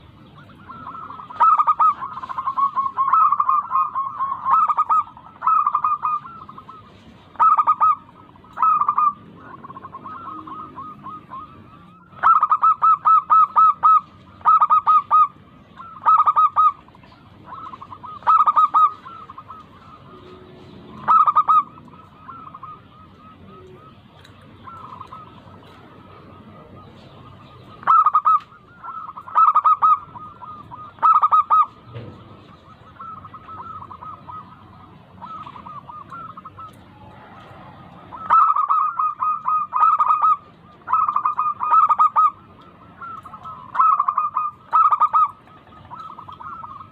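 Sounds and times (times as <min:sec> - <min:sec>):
doves cooing in staccato bursts: 0:00.0 - 0:46.9
faint cooing of other doves: 0:00.0 - 0:46.9.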